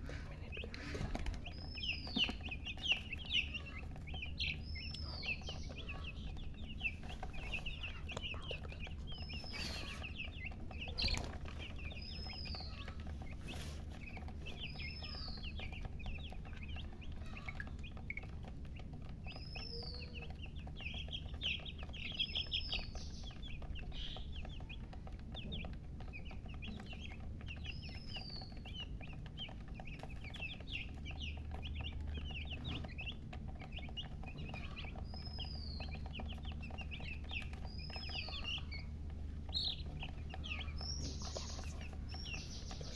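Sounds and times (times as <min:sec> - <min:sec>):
chicks peeping: 0:00.0 - 0:42.9
steady low hum: 0:00.0 - 0:42.9.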